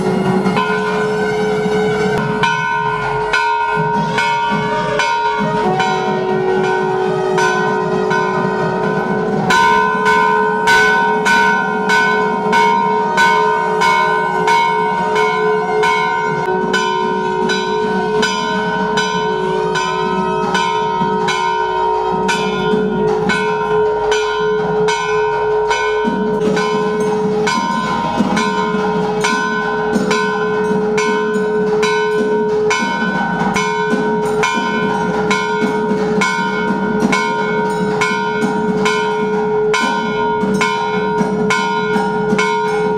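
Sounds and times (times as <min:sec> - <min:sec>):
temple bells ringing: 0:00.0 - 0:42.9.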